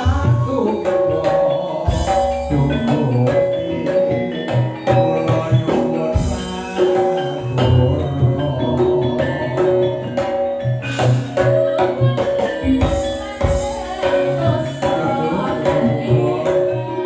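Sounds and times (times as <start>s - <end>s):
drums: 0.0s - 17.0s
metallophones ringing: 0.0s - 17.0s.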